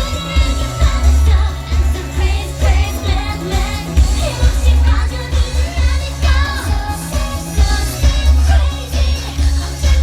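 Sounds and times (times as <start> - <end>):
pop backing track with heavy bass: 0.0 - 10.0
woman singing: 0.0 - 10.0.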